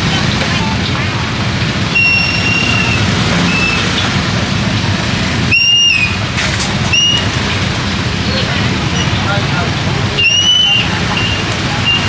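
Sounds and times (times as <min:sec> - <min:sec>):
motorbikes passing: 0:00.0 - 0:12.0.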